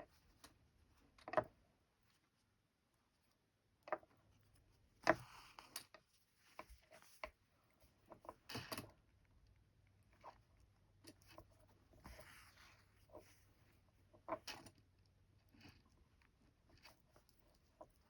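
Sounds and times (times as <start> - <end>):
scratchy rustles of thread and cloth: 1.8 - 8.8, 10.0 - 18.0.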